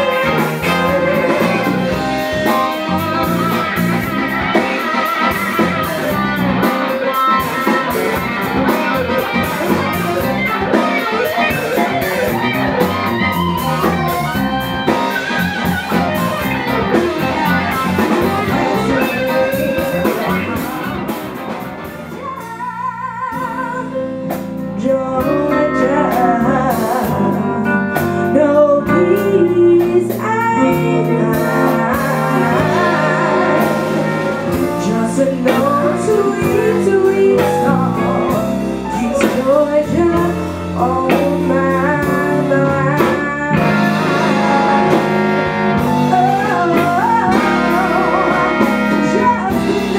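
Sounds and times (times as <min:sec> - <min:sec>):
person singing: 0:00.0 - 0:45.1, 0:45.7 - 0:49.9
live soul and funk band: 0:00.0 - 0:49.9.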